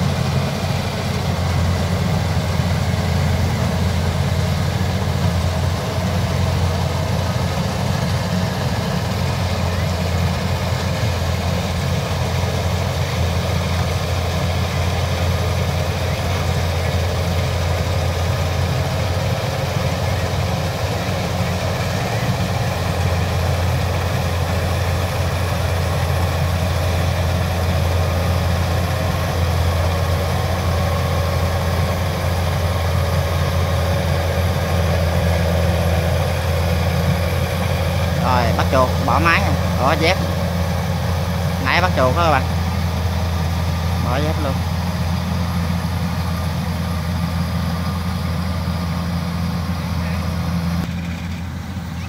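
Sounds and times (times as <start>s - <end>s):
combine harvester diesel engine: 0.0s - 52.0s.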